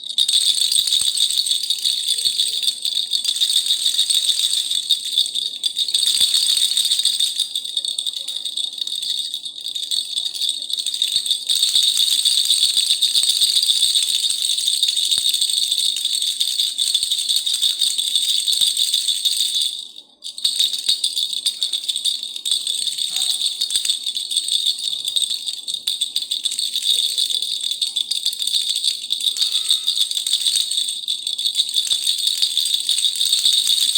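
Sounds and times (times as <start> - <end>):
hand rattle shaken: 0.0 - 33.9.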